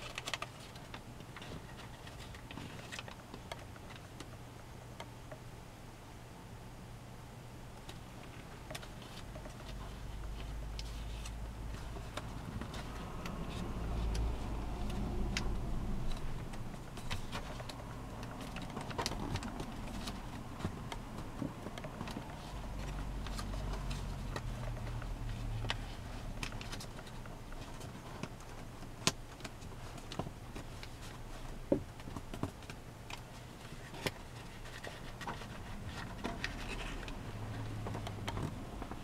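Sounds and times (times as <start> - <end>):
paper rustling and crinkling: 0.0 - 4.2, 8.3 - 39.0
low steady rumble: 0.0 - 39.0.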